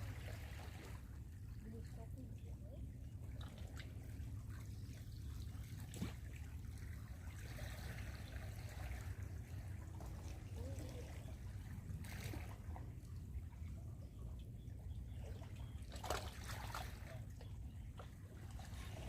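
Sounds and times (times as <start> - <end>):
steady low rumble: 0.0 - 16.0
water trickling and lapping: 0.0 - 19.0.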